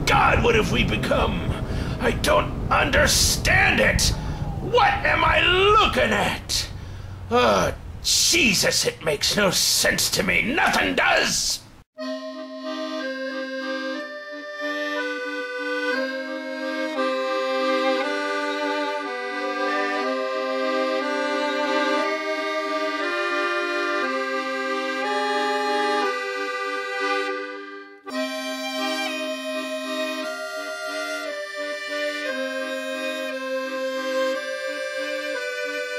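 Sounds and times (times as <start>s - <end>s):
accordion chords: 0.0s - 7.7s, 12.0s - 35.9s.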